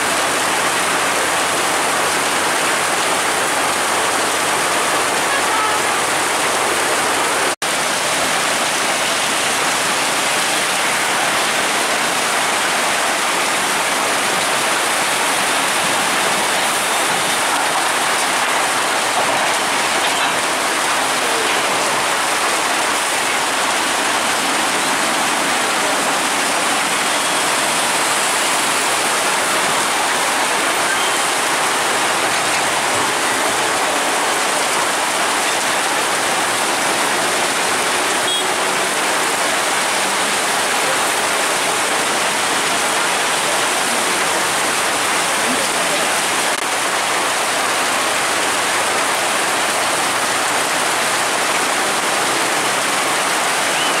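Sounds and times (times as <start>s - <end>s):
heavy rain on wet road: 0.0s - 54.0s.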